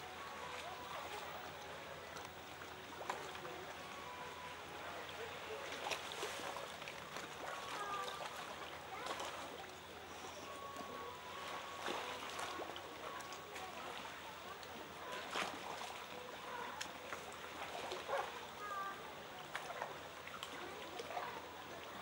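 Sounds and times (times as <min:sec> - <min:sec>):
faint distant voices: 0:00.0 - 0:22.0
small splashes: 0:00.0 - 0:22.0
water lapping and trickling: 0:00.0 - 0:22.0.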